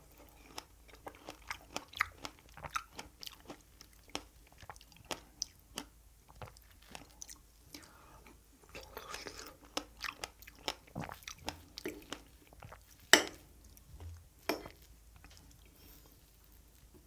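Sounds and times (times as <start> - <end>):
person chewing cake: 0.0 - 17.0.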